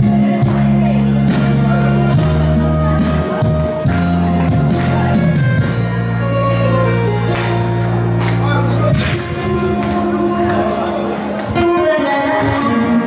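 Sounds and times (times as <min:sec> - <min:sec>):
song backing track over loudspeakers: 0:00.0 - 0:13.0.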